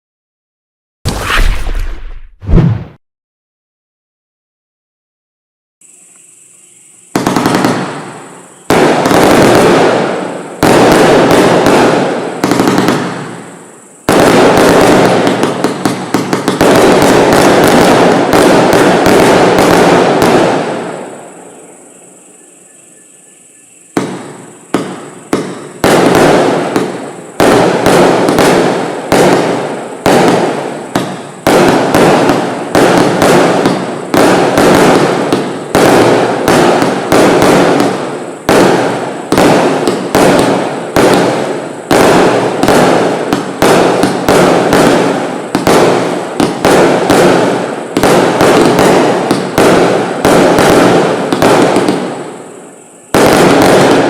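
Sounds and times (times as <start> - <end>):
firework barrage shots: 1.1 - 3.0, 7.1 - 21.3, 23.9 - 54.0.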